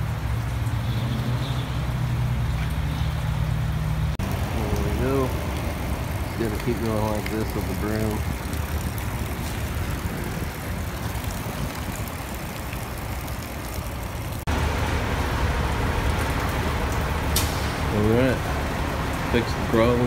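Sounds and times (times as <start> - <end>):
floodwater swishing: 0.0 - 20.0
rain falling: 0.0 - 20.0.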